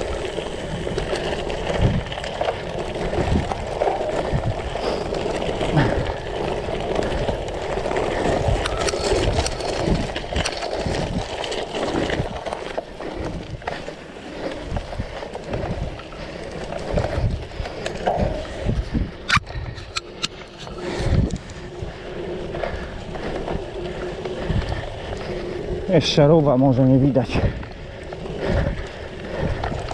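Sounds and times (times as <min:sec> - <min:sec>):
bike rattling over bumps: 0:00.0 - 0:29.9
bike tyres rumbling on dirt: 0:00.0 - 0:29.9
wind buffeting microphone: 0:00.0 - 0:29.9.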